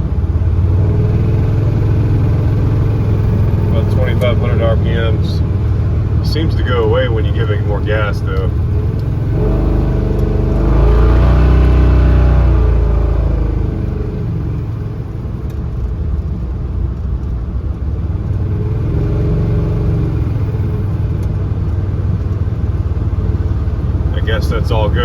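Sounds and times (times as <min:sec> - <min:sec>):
car engine revving: 0:00.0 - 0:17.3, 0:18.2 - 0:25.0.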